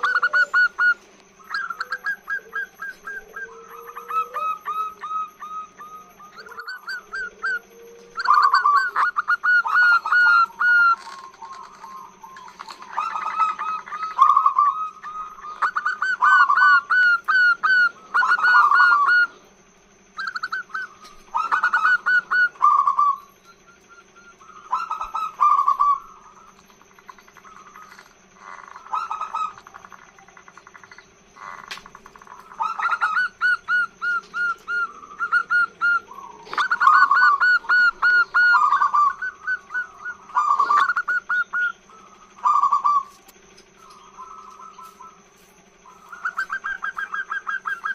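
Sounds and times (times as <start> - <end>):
dove bubbling coos: 0.0 - 47.9.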